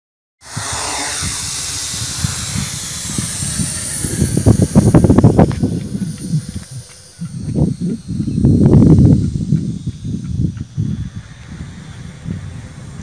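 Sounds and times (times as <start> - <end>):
quadcopter motors whining: 0.4 - 13.0
wind gusts buffeting microphone: 0.4 - 13.0.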